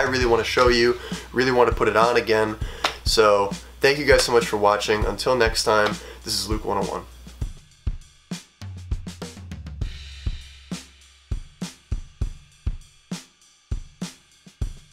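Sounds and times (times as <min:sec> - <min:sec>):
drum kit beat: 0:00.0 - 0:14.9.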